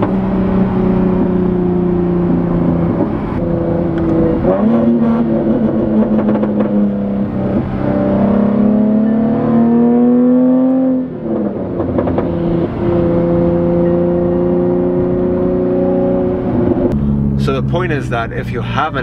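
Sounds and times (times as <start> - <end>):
car exhaust accelerating and droning: 0.0 - 19.0.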